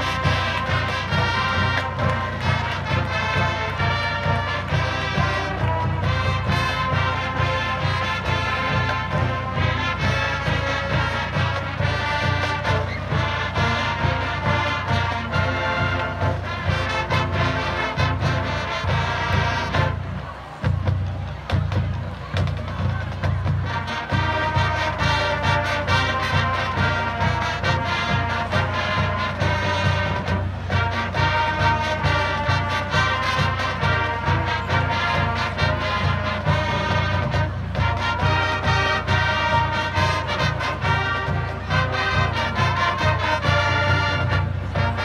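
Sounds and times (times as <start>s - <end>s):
brass chords: 0.0s - 20.2s, 23.6s - 45.0s.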